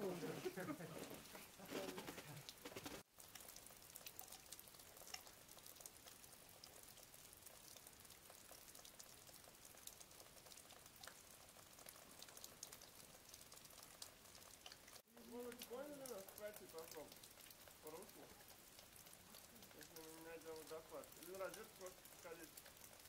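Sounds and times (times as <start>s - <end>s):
meltwater dripping: 0.0s - 23.0s.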